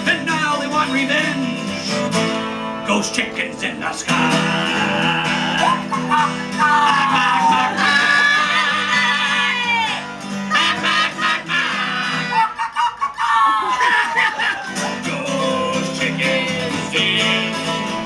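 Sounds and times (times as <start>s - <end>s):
acoustic guitar strumming: 0.0s - 12.5s, 14.3s - 18.0s
voices singing a chorus: 2.9s - 18.0s.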